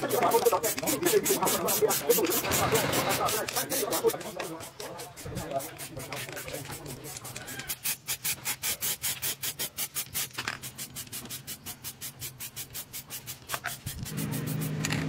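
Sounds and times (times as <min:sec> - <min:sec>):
spray can hissing: 0:00.0 - 0:15.0.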